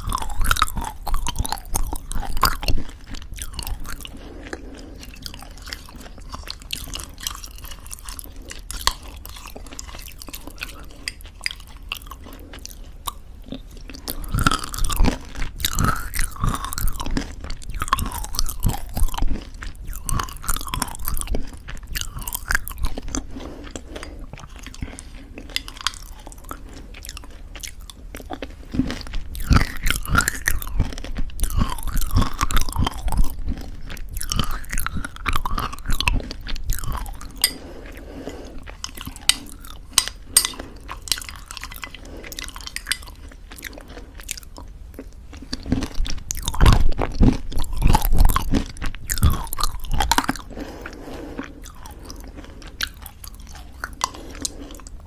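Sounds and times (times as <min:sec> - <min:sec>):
chewing crunchy granola: 0:00.0 - 0:55.0
wet mouth sounds: 0:00.0 - 0:55.0.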